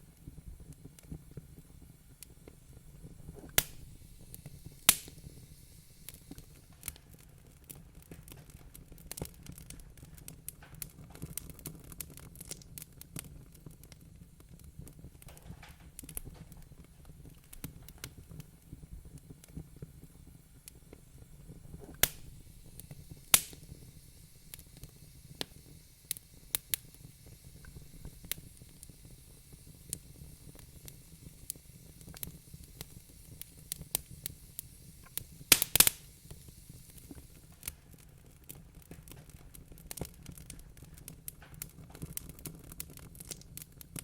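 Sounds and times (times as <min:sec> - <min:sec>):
fire low rumble: 0:00.0 - 0:44.0
wood fire pops and snaps: 0:00.0 - 0:44.0.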